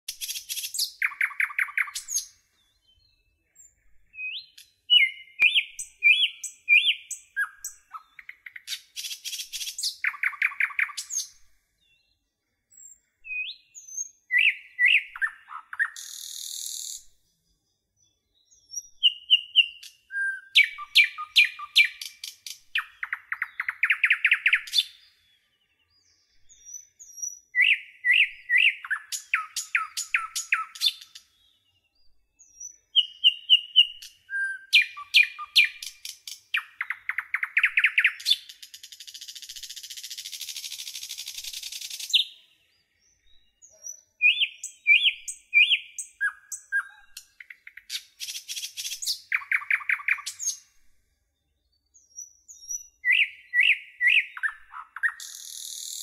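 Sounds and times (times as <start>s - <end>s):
songbirds chirping and trilling: 0.1s - 56.0s.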